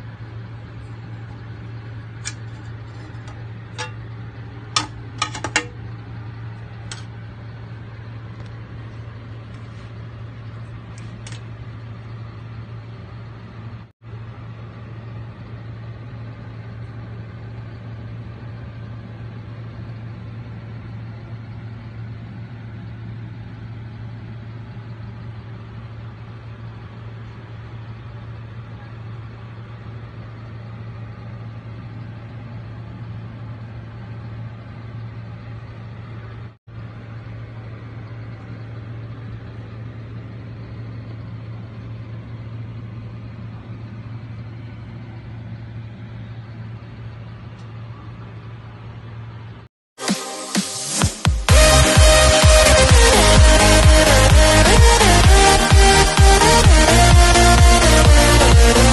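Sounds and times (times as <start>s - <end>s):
low mechanical hum: 0.0s - 49.7s, 50.9s - 58.9s.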